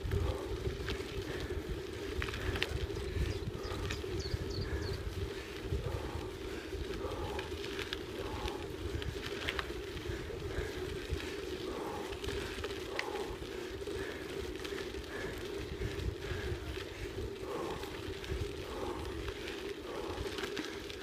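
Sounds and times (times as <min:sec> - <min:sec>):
rumble of travel on sandy track: 0:00.0 - 0:21.0
wind buffeting microphone: 0:00.0 - 0:21.0.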